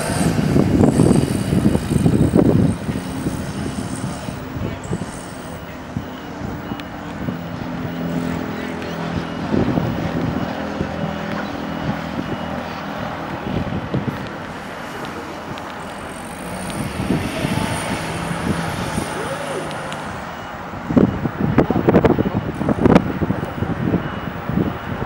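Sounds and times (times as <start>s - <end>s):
car engine revving: 0.0s - 24.0s
rough rush of noise: 0.0s - 25.0s.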